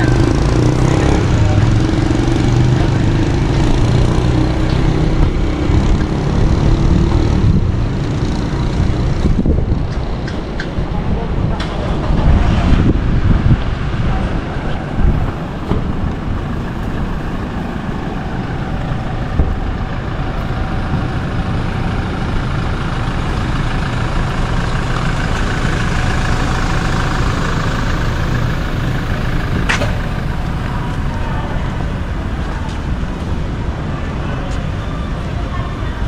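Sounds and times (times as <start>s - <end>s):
vehicle engine rumbling: 0.0s - 36.0s.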